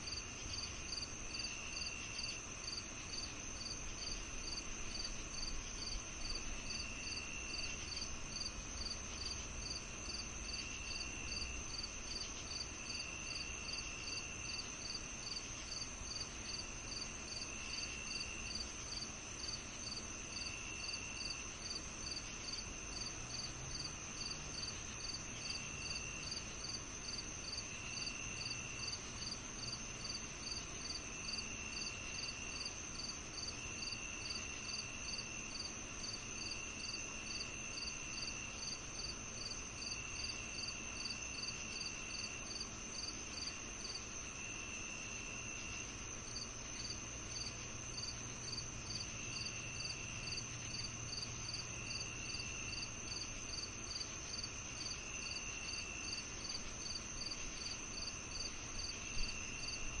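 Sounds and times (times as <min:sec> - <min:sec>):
crickets chirping: 0:00.0 - 1:00.0
insects trilling: 0:00.0 - 1:00.0.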